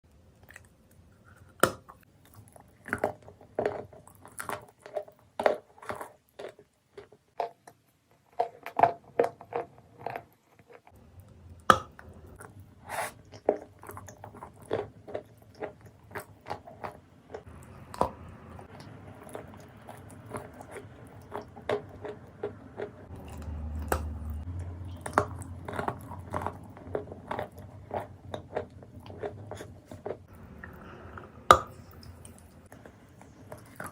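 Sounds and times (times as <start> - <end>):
clay being chewed crunching: 0.1 - 33.9.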